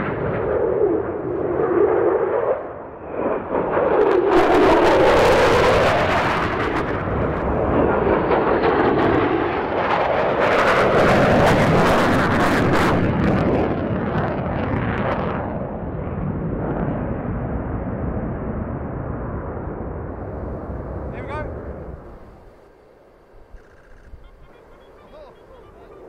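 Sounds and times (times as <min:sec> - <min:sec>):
fighter jets roaring past: 0:00.0 - 0:26.0.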